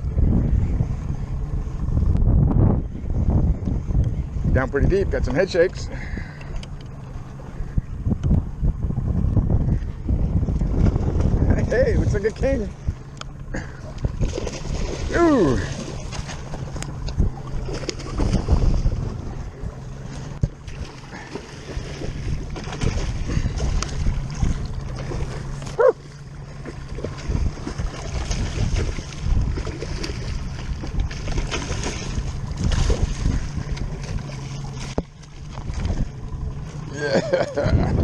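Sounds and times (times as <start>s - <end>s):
boat engine humming: 0.0s - 38.0s
water noise: 0.0s - 38.0s
wind: 0.0s - 38.0s.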